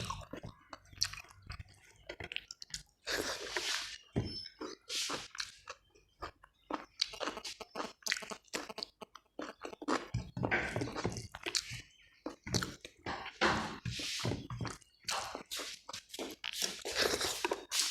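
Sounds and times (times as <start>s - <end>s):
person chewing crunchy food: 0.0s - 17.9s.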